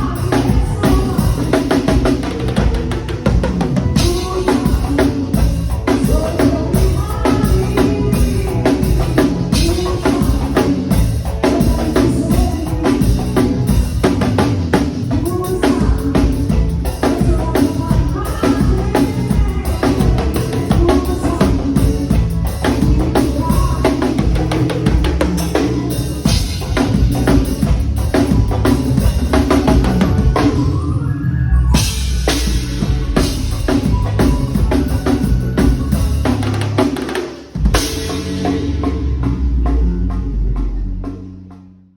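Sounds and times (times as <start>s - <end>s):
drum kit groove: 0.0s - 31.0s, 31.7s - 41.7s
live band playing: 0.0s - 41.9s.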